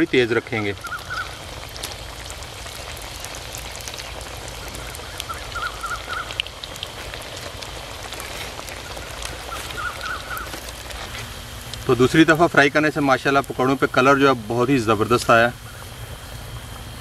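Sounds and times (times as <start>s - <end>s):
deep-frying sizzle and crackle: 0.0s - 17.0s.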